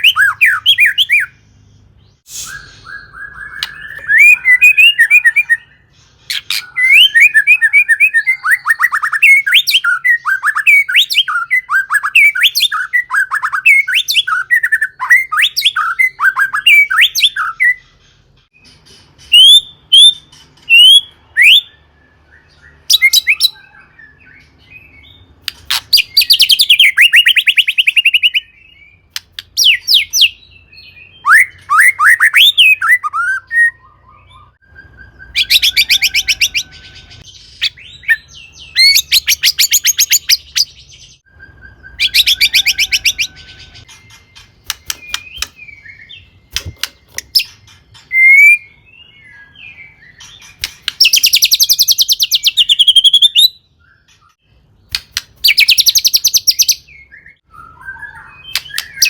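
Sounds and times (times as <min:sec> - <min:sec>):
songbird chirps and whistles: 0:00.0 - 0:59.0.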